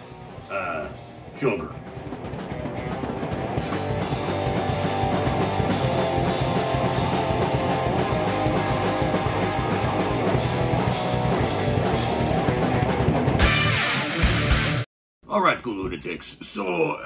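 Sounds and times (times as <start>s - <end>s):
heavy metal music: 0.0s - 14.9s.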